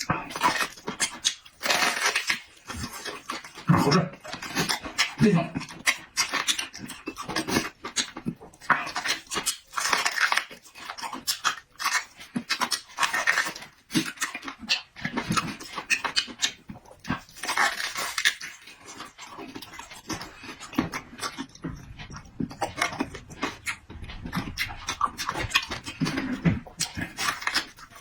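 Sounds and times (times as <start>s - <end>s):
lip smacking: 0.0s - 28.0s
wet chewing: 0.0s - 28.0s.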